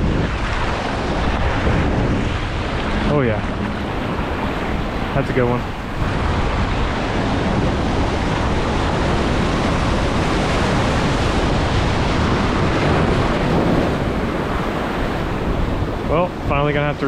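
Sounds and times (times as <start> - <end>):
surf rushing: 0.0 - 17.0
wind buffeting microphone: 0.0 - 17.0.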